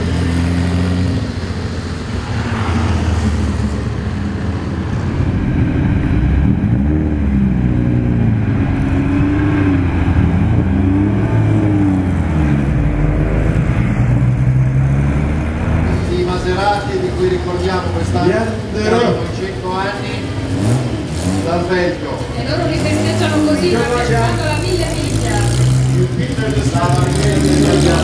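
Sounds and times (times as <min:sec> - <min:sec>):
racing engine revving: 0:00.0 - 0:28.0.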